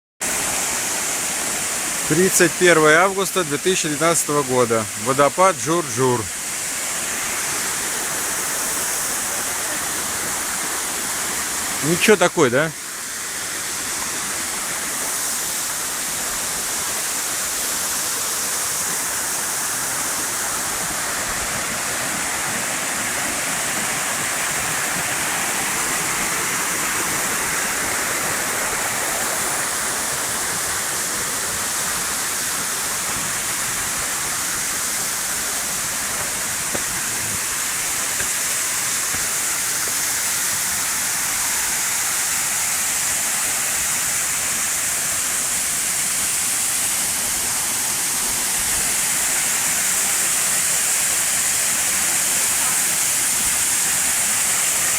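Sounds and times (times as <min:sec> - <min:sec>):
waterfall pouring: 0:00.2 - 0:54.9.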